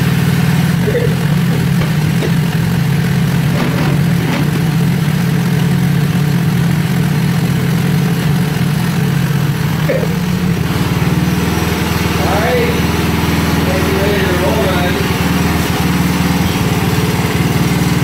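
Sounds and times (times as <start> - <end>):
small atv engine idling: 0.0 - 18.0.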